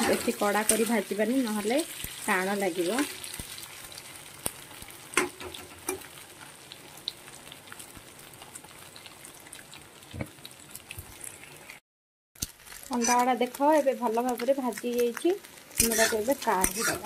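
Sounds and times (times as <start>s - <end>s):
food sizzling in oil: 0.0s - 11.8s, 12.4s - 17.0s.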